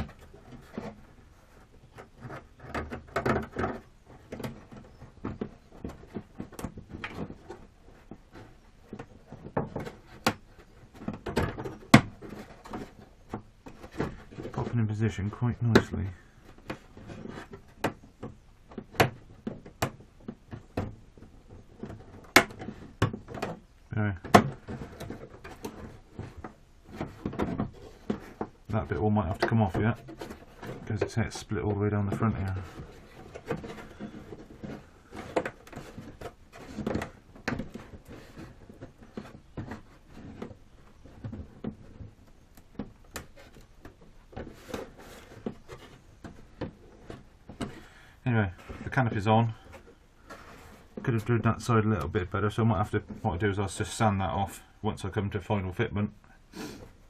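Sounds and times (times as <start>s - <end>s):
rustling: 0.0s - 57.0s.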